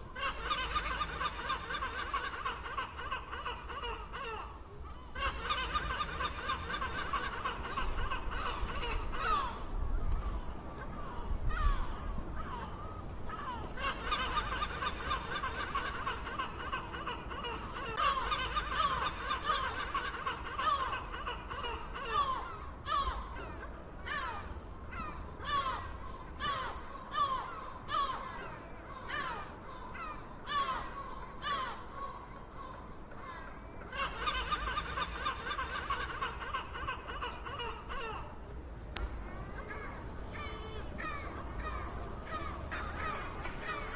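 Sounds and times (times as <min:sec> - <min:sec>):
seagulls calling: 0:00.0 - 0:43.9.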